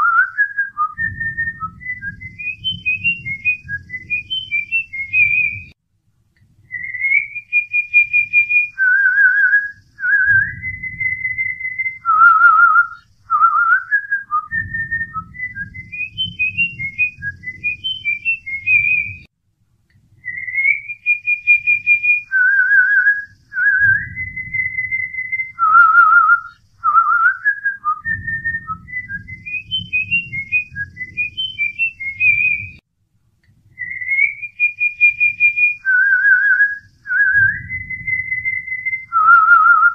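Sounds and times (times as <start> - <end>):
whistled melody: 0.0 - 5.8, 6.7 - 19.3, 20.2 - 32.8, 33.8 - 39.9.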